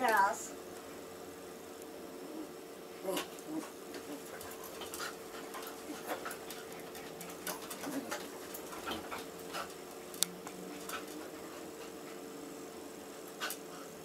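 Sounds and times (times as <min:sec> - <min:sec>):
window fan humming: 0:00.0 - 0:14.0
dogs grumbling: 0:02.0 - 0:14.0.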